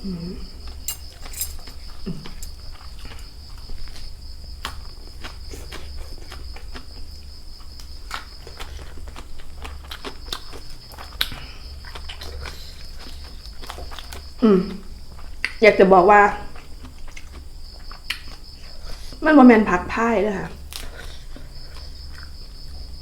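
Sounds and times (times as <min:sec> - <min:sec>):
chewing raw vegetables: 0:00.0 - 0:19.2, 0:20.5 - 0:23.0
crickets trilling: 0:00.0 - 0:23.0.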